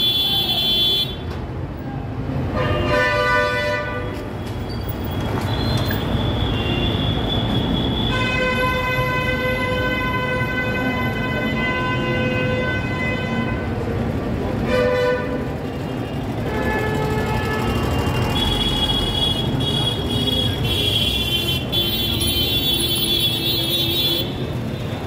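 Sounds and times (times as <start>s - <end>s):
vehicle horns honking: 0.0s - 1.3s, 2.5s - 4.3s, 5.2s - 13.8s, 14.6s - 25.0s
traffic engine rumble: 0.0s - 25.0s.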